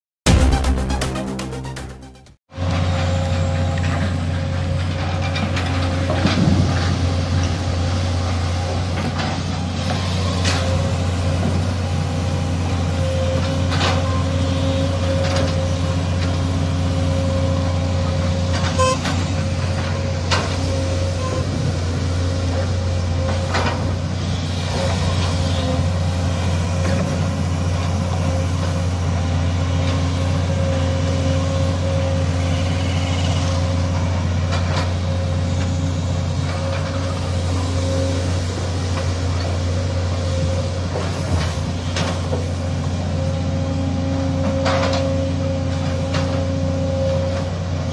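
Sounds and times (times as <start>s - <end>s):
excavator diesel engine droning: 0.3s - 47.9s.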